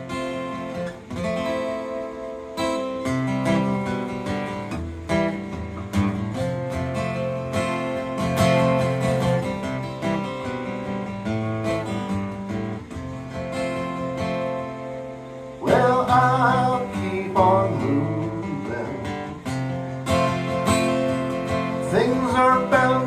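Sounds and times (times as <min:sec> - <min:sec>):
acoustic guitar playing chords: 0:00.0 - 0:23.0.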